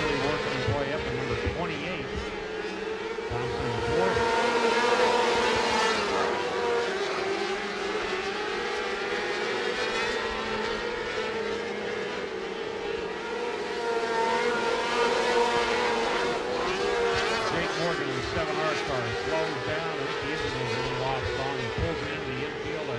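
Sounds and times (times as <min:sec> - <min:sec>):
racing car engines at high revs: 0:00.0 - 0:22.9.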